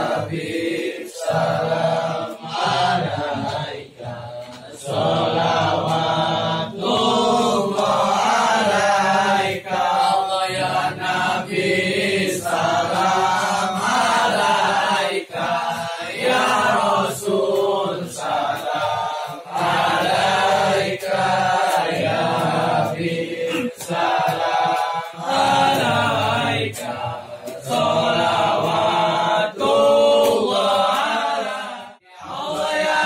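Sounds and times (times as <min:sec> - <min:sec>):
men chanting prayers: 0:00.0 - 0:33.0.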